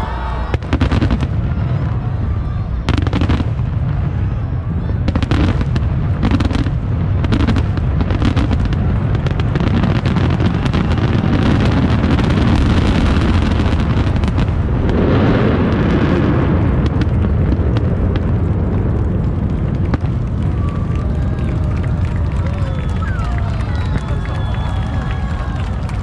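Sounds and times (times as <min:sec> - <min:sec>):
fireworks booming: 0:00.0 - 0:26.0
sharp firework cracks: 0:02.9 - 0:26.0.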